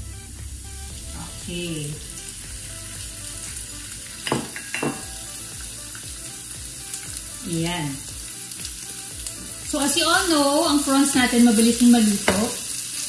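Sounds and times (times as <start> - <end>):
prawns sizzling in a pan: 0.0 - 13.0.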